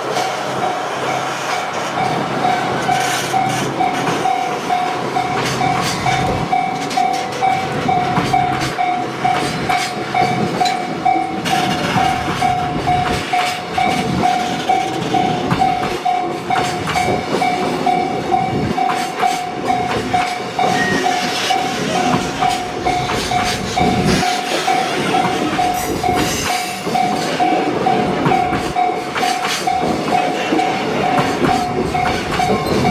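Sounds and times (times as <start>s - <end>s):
train wheels clattering over joints: 0.0s - 32.9s
level crossing alarm ringing: 2.0s - 32.9s.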